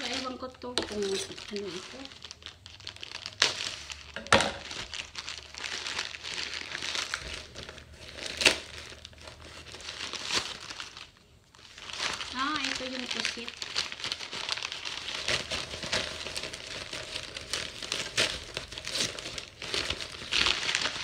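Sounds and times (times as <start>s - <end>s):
paper package rustling: 0.0s - 21.0s
plastic bag crinkling: 0.0s - 21.0s.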